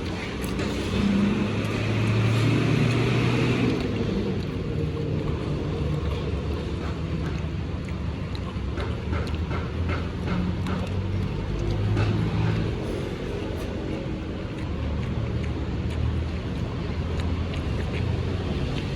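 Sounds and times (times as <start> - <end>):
steady low rumble: 0.0 - 18.9
vehicle engine running: 0.0 - 18.9.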